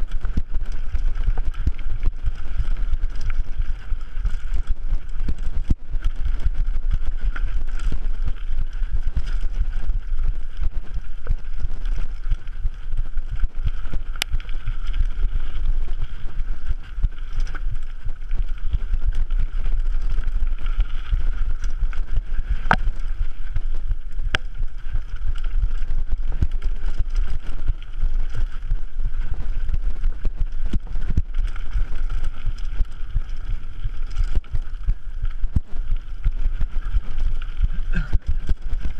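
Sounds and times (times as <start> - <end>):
bike tyres rumbling on gravel: 0.0 - 38.9.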